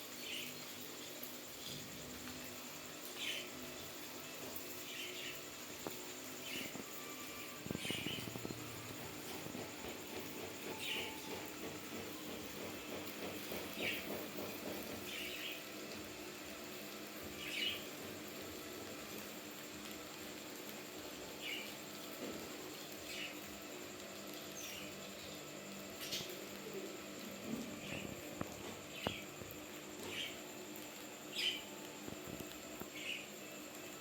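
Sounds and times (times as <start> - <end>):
rats rustling: 0.2 - 34.0.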